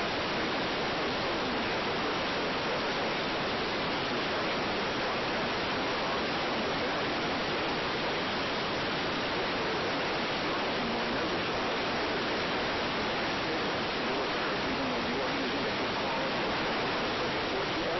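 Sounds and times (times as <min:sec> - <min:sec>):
radio static hiss: 0:00.0 - 0:17.9.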